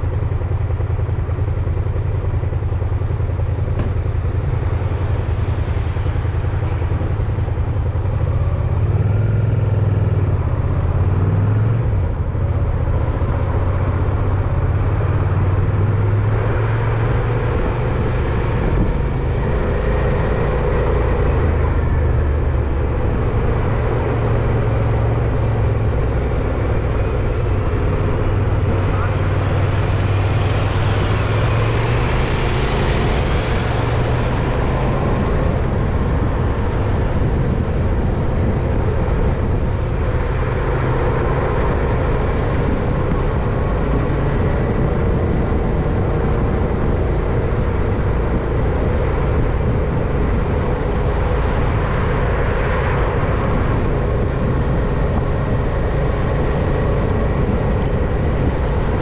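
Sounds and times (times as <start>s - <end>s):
road traffic passing: 0.0s - 59.0s
wind rumbling on microphone: 0.0s - 59.0s.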